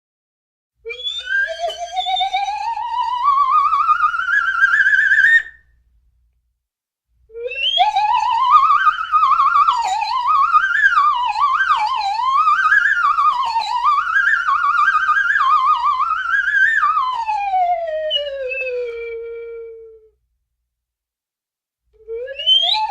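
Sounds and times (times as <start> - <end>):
slide whistle: 0.8 - 5.7, 7.3 - 20.2, 22.0 - 22.9.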